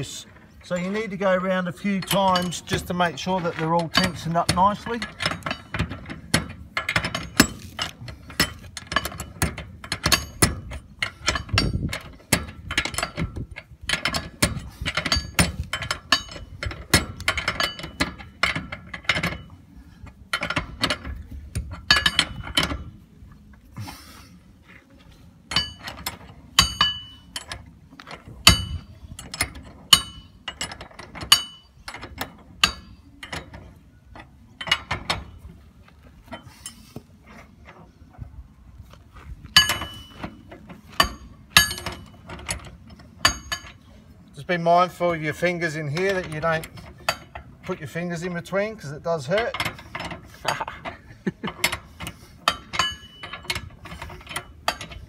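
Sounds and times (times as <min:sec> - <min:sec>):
spanner clinking on bolts: 0:00.6 - 0:22.9, 0:25.5 - 0:35.4, 0:39.5 - 0:43.8, 0:45.2 - 0:55.0.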